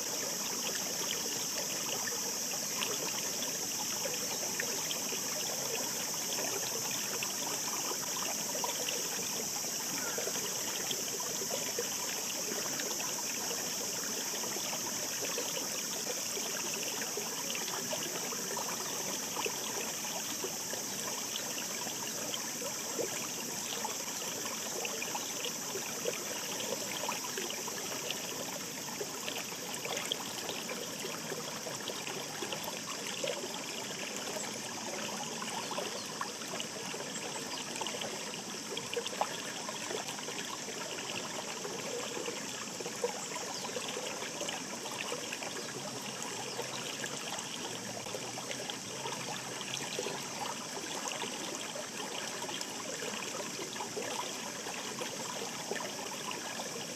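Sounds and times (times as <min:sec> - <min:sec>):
mountain stream babbling: 0:00.0 - 0:56.9.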